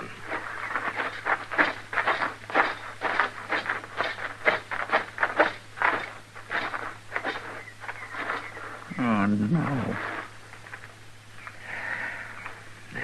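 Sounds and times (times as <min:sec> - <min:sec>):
crunching footsteps: 0:00.0 - 0:11.6.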